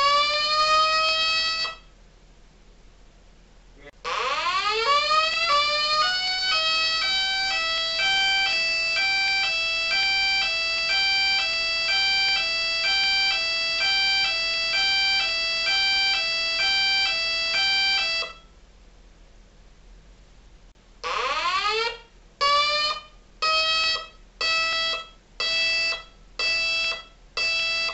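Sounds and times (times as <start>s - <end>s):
electronic siren: 0.0s - 1.9s, 4.0s - 18.5s, 21.0s - 27.9s.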